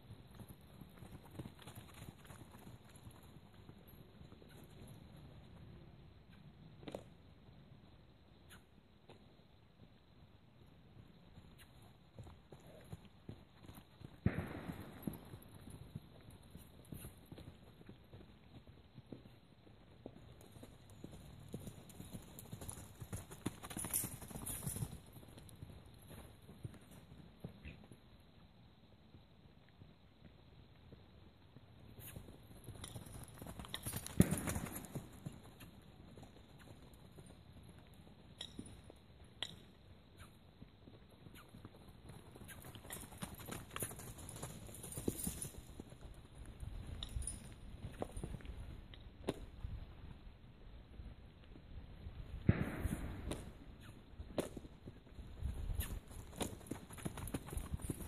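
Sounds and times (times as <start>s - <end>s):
horse hoofbeats on dirt: 0.0s - 7.6s, 8.5s - 58.0s.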